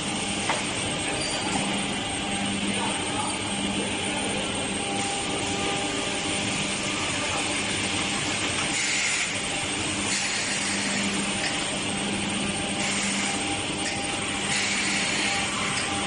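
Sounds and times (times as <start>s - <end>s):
woodworking machinery hissing: 0.0s - 16.0s.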